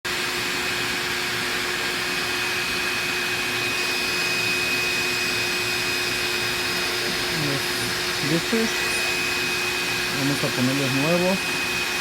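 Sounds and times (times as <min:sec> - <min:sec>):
machine whir with tones: 0:00.1 - 0:12.0.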